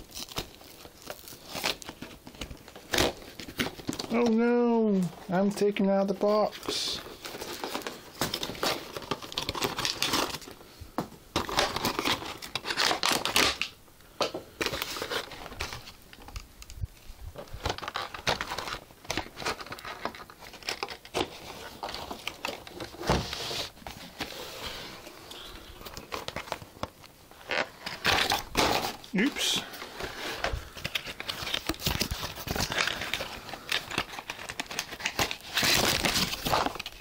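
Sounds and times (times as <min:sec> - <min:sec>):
cardboard and plastic packaging rustling: 0:00.0 - 0:37.0.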